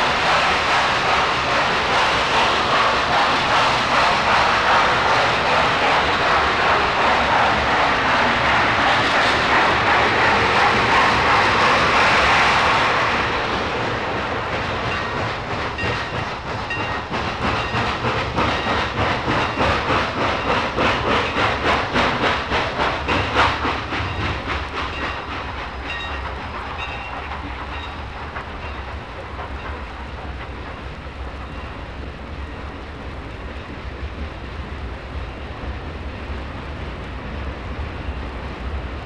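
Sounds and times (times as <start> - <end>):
steam locomotive hissing: 0.0 - 32.5
train wheels clattering: 0.0 - 32.8.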